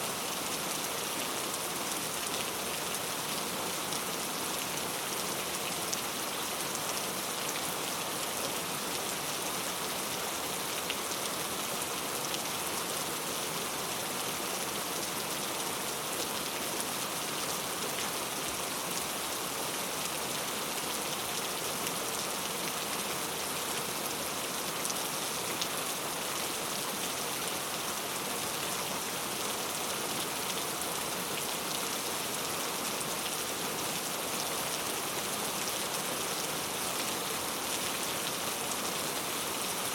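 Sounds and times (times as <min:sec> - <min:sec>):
rain pattering on a surface: 0:00.2 - 0:39.9.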